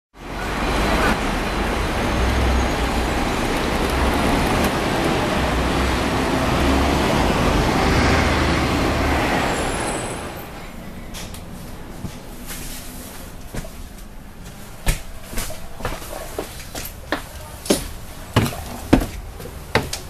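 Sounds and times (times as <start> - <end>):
bus engine and road rumble: 0.2 - 20.0.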